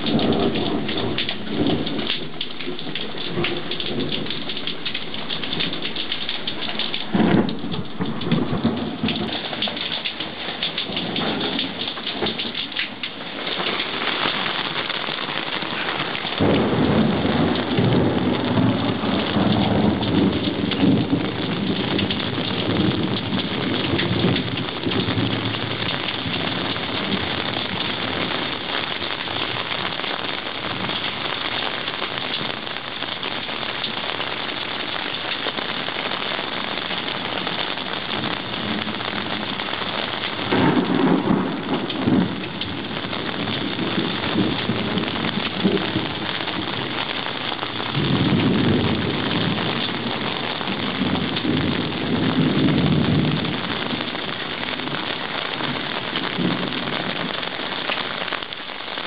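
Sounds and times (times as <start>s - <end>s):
rolling thunder: 0.0s - 34.1s, 35.9s - 57.6s
heavy rain falling: 0.0s - 59.0s.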